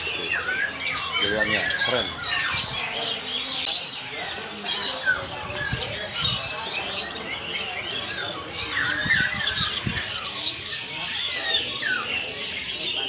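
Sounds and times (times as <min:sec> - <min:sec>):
caged songbirds chirping: 0:00.0 - 0:13.0.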